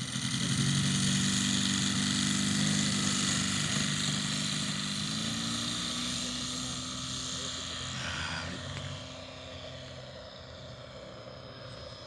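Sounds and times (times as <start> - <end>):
model aeroplane engine running: 0.0 - 12.0.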